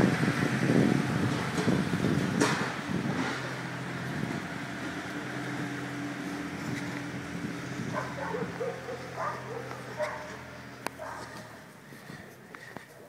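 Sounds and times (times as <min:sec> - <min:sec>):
low motor hum: 0:00.0 - 0:12.9.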